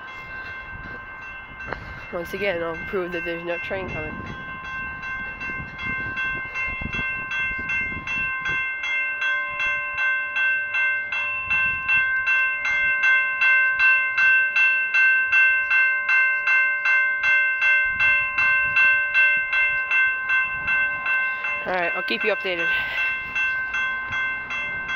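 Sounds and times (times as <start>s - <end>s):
railroad crossing bell ringing: 0.0s - 24.9s.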